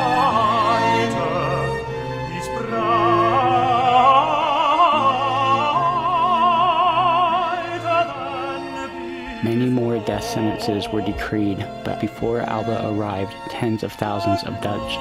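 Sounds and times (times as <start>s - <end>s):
operatic vocal piece: 0.0s - 15.0s.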